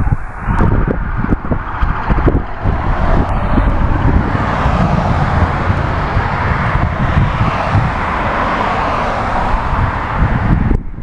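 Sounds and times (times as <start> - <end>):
road noise from passing cars: 0.0 - 11.0
wind rumbling on microphone: 0.0 - 11.0
car passing close by: 0.7 - 10.7.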